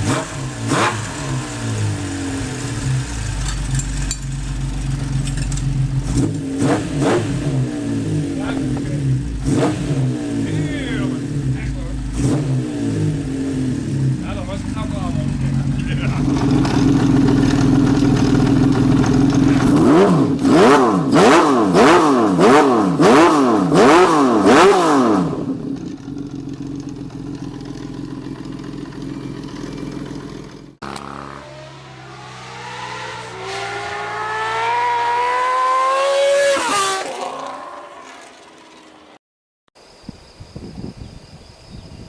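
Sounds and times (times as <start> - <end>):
motorcycle accelerating: 0.0 - 39.2
motorcycle engine idling and revving: 0.0 - 39.2.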